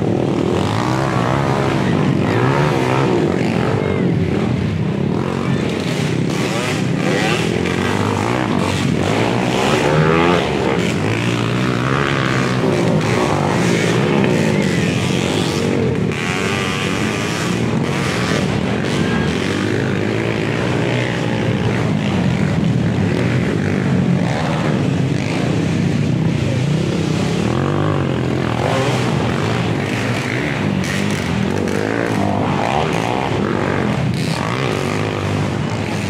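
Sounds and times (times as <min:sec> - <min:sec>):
motorcycle engines revving hard: 0:00.0 - 0:36.0.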